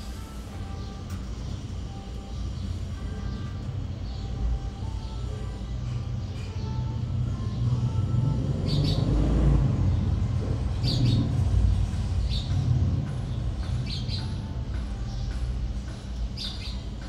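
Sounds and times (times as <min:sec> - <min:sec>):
steady low rumble: 0:02.8 - 0:17.0.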